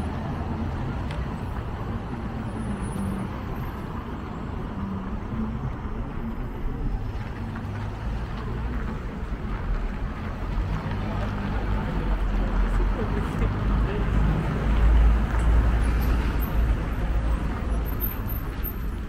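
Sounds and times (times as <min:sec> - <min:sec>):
motor traffic rumble: 0:00.0 - 0:19.0.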